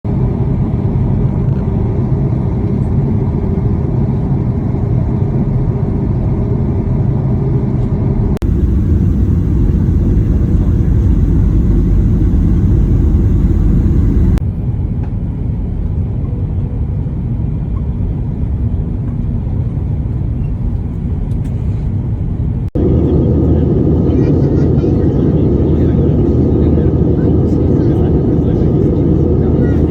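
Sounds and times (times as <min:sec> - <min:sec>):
airliner cabin rumble: 0:00.1 - 0:29.9.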